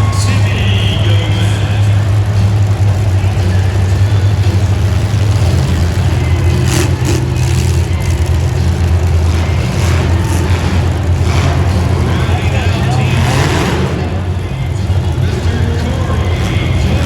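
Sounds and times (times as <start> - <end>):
car engines running loud: 0.0 - 17.0.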